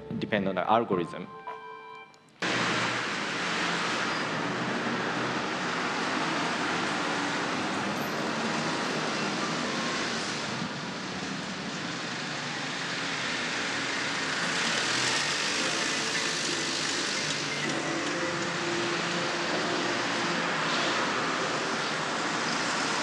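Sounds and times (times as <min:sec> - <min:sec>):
road traffic over loudspeakers: 0:00.0 - 0:23.0.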